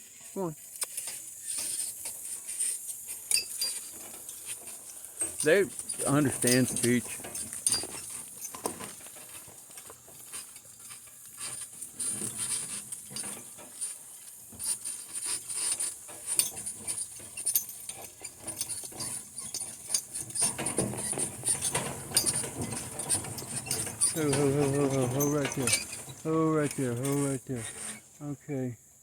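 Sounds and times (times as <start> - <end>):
cart and harness rattling: 0.4 - 28.4.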